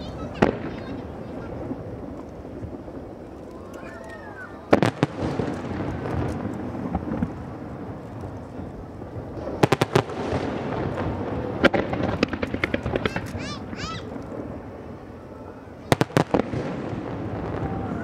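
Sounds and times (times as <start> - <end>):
rolling rumble: 0.0 - 18.0
firework shells bursting: 0.1 - 15.2.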